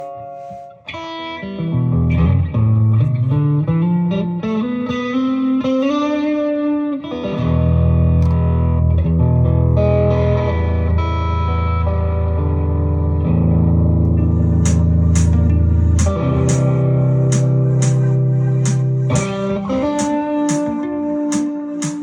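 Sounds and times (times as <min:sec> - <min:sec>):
electric guitar with effects: 0:00.0 - 0:22.0.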